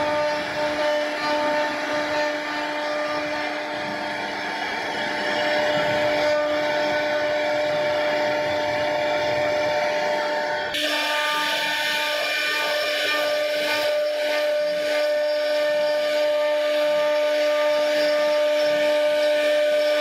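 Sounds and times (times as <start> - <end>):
router bit cutting wood: 0.0 - 20.0
router spindle whining: 0.0 - 20.0.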